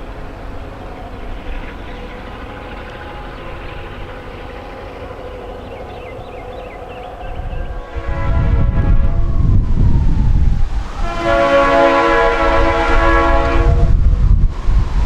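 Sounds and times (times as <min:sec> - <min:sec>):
faint steady tones: 0:00.0 - 0:13.5
diesel locomotive rumbling: 0:00.0 - 0:15.0.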